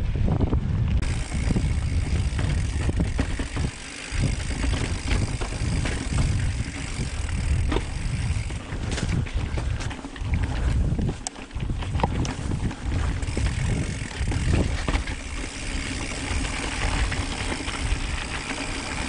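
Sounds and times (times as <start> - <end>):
bike tyres rumbling on dirt: 0.0 - 19.0
bike knocks and rattles: 0.3 - 19.0.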